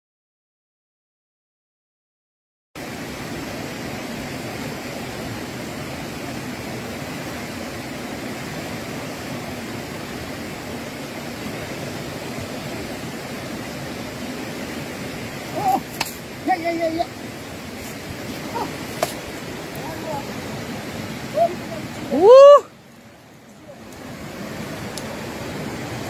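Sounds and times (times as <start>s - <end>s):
river rapids rushing: 2.8s - 26.0s.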